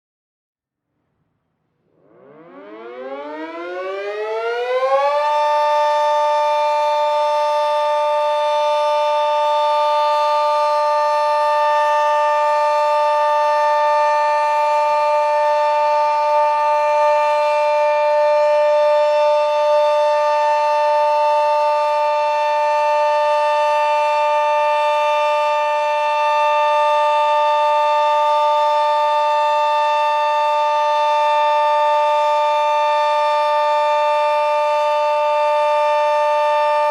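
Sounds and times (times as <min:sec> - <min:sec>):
dual-tone warning siren: 0:01.8 - 0:36.9.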